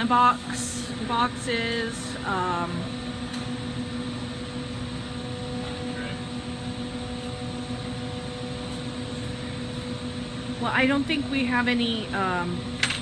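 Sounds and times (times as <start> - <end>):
low hum: 0.0 - 13.0
ventilation running: 0.0 - 13.0.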